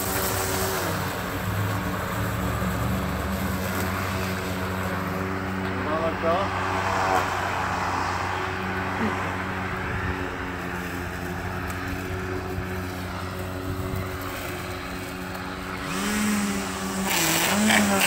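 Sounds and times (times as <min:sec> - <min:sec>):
electric lawn tool motor hum: 0:00.0 - 0:18.0.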